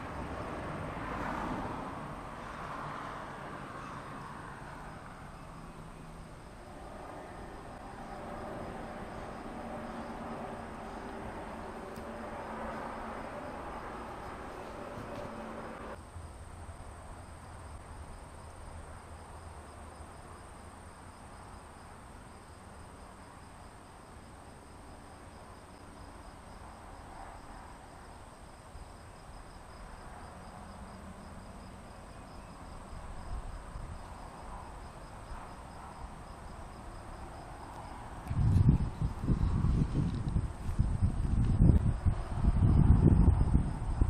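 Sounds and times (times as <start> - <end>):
rapid pulsing insect chirp: 0.0 - 44.0
insects trilling: 2.4 - 16.0, 17.1 - 44.0.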